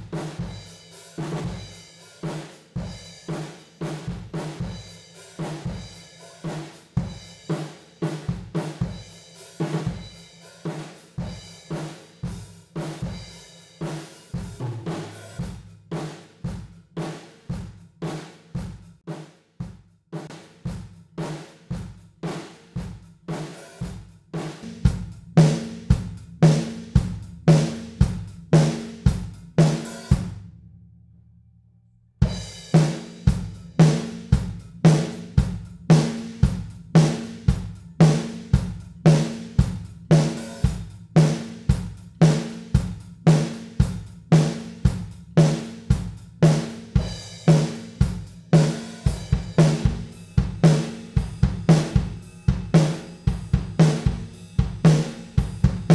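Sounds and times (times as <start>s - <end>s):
drum kit playing steady beat: 0.0s - 30.4s, 32.2s - 55.9s.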